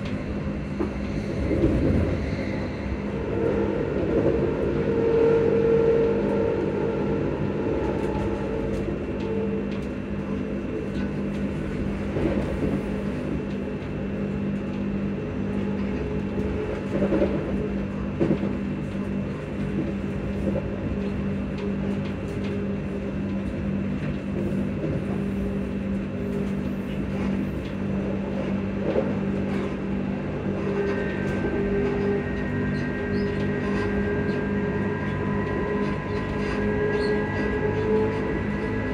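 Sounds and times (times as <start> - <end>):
train motor hum: 0.0 - 38.9
wheel-on-rail rumble: 0.0 - 38.9.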